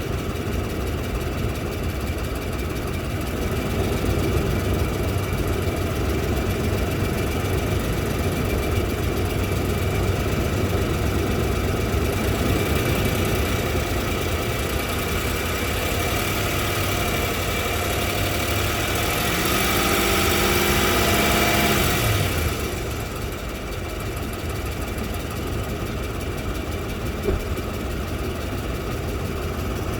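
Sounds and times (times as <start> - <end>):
car engine running with a knock: 0.0 - 29.9.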